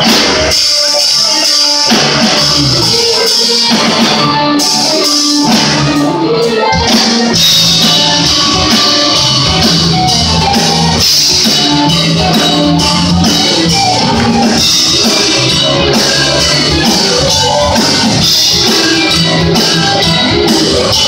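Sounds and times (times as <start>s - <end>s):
bass guitar: 0.0s - 21.0s
drums: 0.0s - 21.0s
electric guitars: 0.0s - 21.0s
keyboards: 0.0s - 21.0s.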